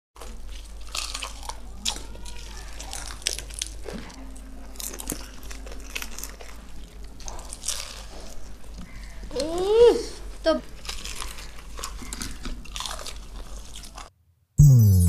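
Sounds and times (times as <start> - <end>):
wet chewing: 0.2 - 9.5, 10.6 - 14.1
crunching while chewing food: 0.2 - 14.1.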